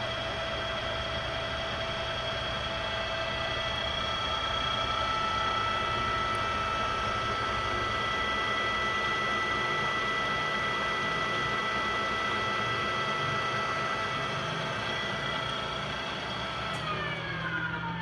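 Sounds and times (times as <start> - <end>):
drill press whining and humming: 0.0 - 18.0.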